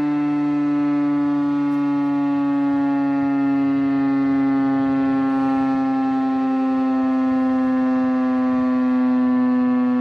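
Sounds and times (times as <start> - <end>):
outdoor warning siren: 0.0 - 10.0.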